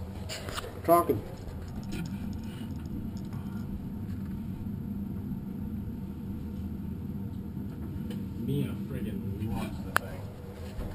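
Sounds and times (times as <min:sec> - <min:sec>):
low hum: 0:00.0 - 0:10.9
low rumble: 0:00.0 - 0:10.9.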